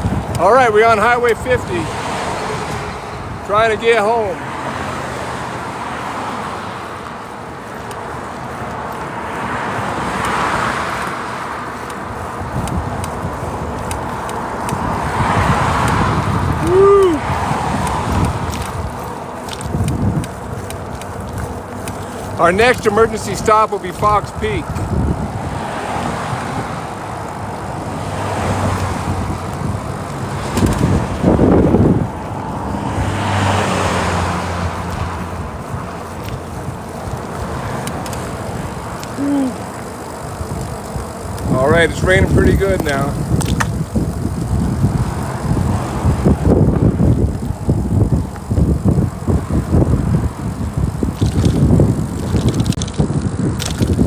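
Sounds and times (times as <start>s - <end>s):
motor vehicle passing: 0.0s - 54.0s
road and wind noise: 0.0s - 54.0s.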